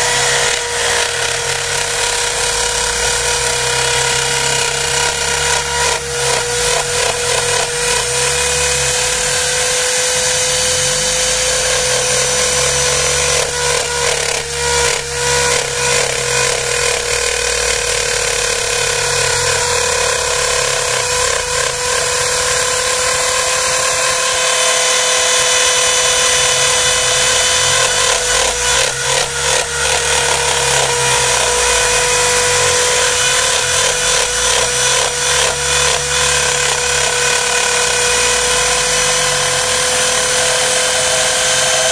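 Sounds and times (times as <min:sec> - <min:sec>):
router bit chattering through wood: 0:00.0 - 0:41.9
router motor whining: 0:00.0 - 0:41.9.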